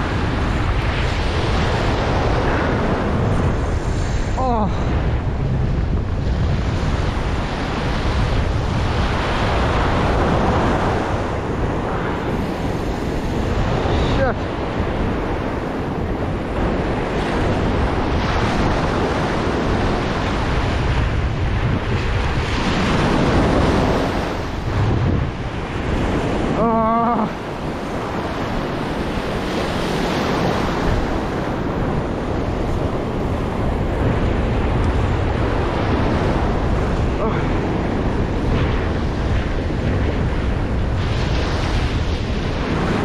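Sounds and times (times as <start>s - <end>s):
ocean surf breaking: 0.0s - 43.0s
wind buffeting microphone: 0.0s - 43.0s.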